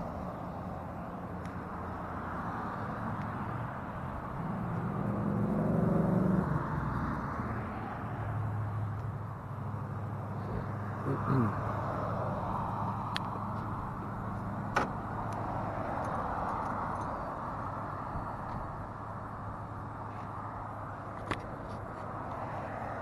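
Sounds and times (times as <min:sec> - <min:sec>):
vehicle passing: 0:00.0 - 0:21.1, 0:22.1 - 0:23.0
low engine hum: 0:00.0 - 0:23.0.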